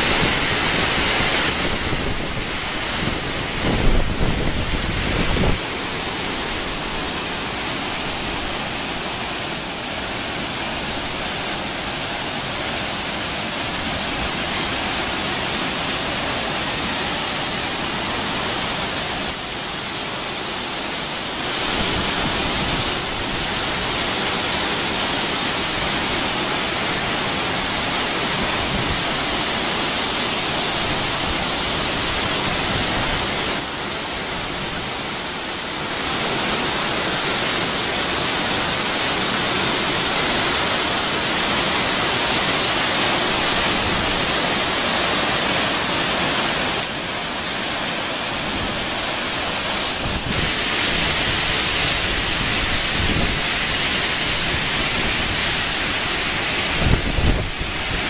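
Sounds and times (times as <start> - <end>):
rushing water of waterfall: 0.0 - 58.0.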